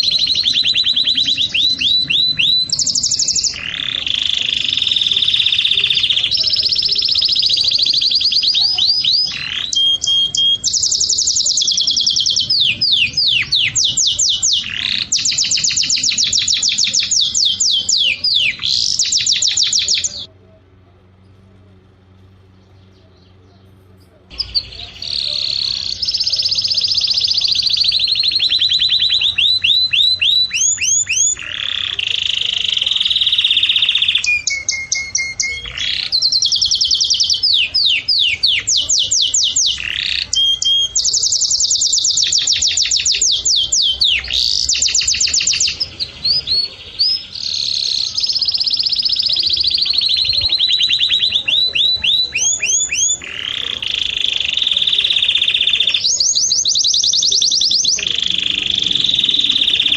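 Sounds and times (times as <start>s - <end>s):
songbird singing trills: 0.0s - 59.9s.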